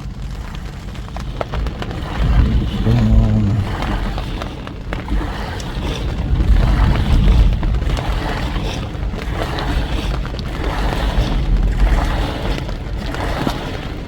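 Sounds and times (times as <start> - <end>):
wind buffeting microphone: 1.1 - 14.0.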